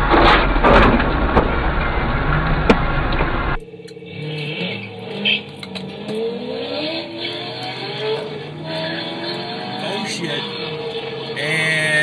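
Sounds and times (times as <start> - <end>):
car engines accelerating hard: 0.0 - 12.0.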